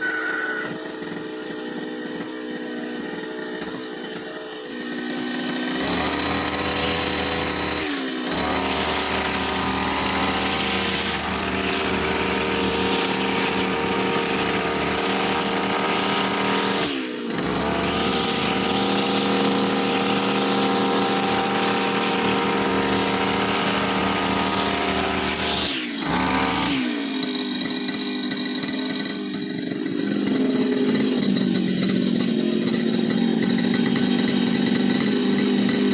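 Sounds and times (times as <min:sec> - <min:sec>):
brush cutter engine running: 0:00.0 - 0:35.9.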